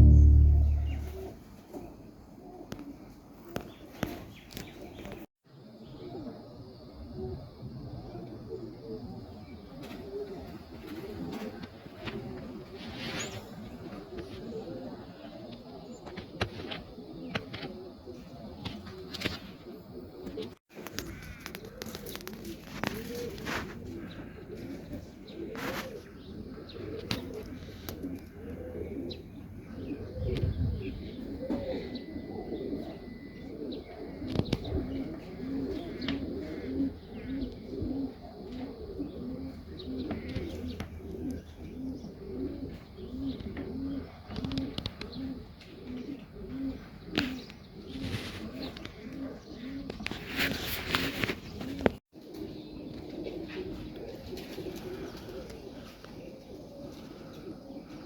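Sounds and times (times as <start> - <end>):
pigeons cooing: 0.0 - 5.2, 5.8 - 58.0.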